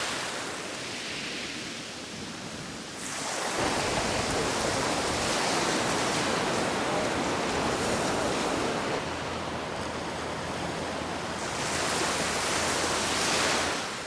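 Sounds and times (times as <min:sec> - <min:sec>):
ocean waves on rocks: 0:00.0 - 0:14.0.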